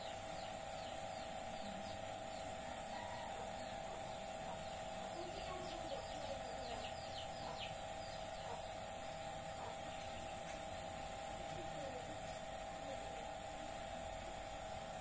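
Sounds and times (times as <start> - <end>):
birds chirping faintly: 0.0 - 15.0
steady hum: 0.0 - 15.0.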